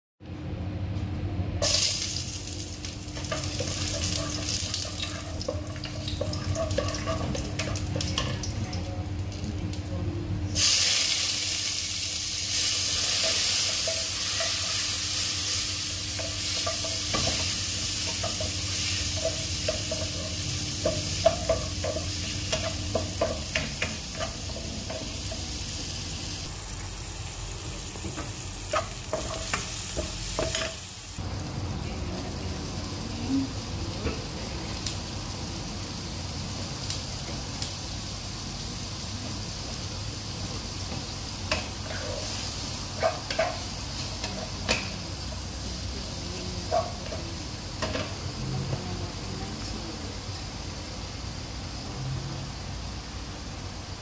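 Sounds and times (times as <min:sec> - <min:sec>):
prawns frying in oil: 0:01.6 - 0:54.0.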